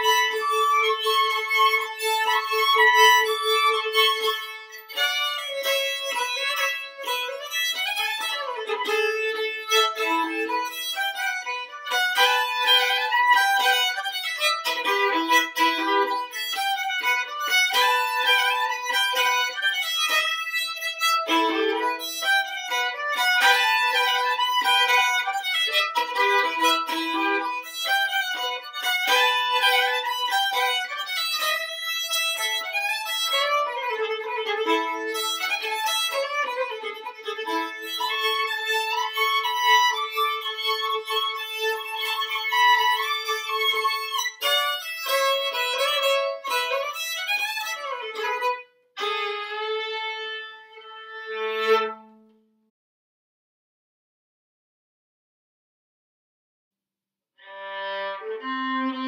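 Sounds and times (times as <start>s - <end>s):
solo fiddle tune: 0.0s - 52.4s, 57.4s - 59.0s.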